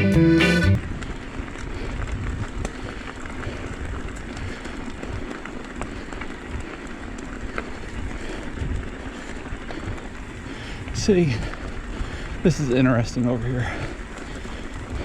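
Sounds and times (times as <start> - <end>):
small clicks and ticks: 0.8 - 15.0.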